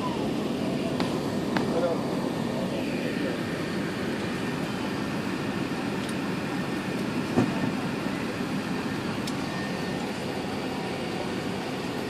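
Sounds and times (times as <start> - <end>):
airplane cabin rumble while taxiing: 0.0 - 12.0.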